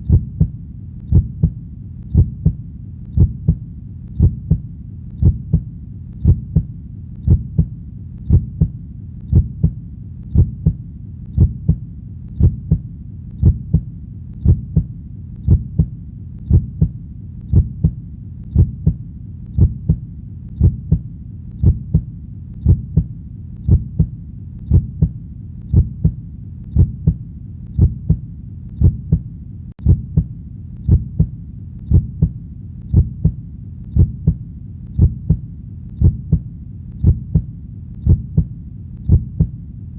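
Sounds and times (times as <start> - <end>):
heartbeat thudding: 0.0 - 39.6
low hum: 0.0 - 39.9.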